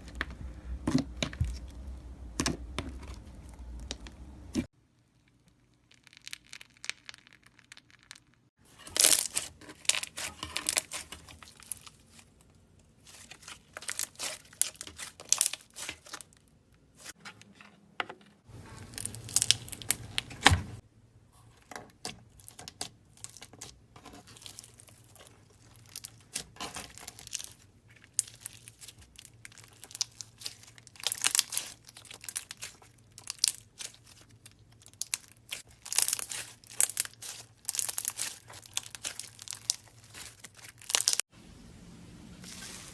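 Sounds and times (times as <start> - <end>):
slime crackling and crinkling: 0.0 - 17.2, 18.5 - 20.8, 22.0 - 41.3.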